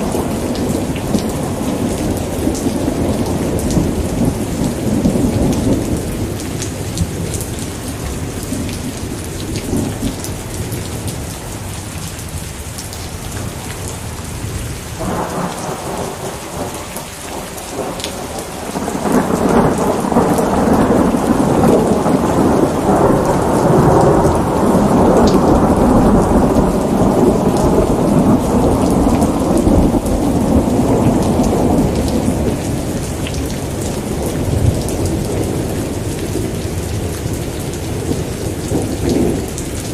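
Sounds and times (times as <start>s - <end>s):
thunder rumbling: 0.0s - 11.3s, 14.4s - 39.9s
steady rain falling: 0.0s - 39.9s.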